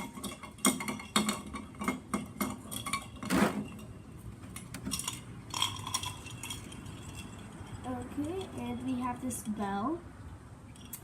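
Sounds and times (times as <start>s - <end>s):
scraping metal rattle: 0.0s - 9.0s
metal fittings clinking: 0.0s - 9.6s.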